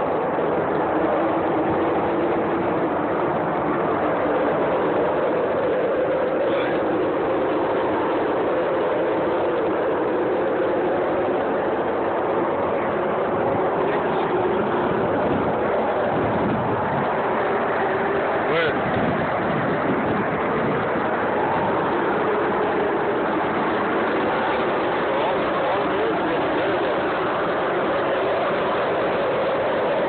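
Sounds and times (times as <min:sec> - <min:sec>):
jet-like roar with droning hum: 0:00.0 - 0:30.0.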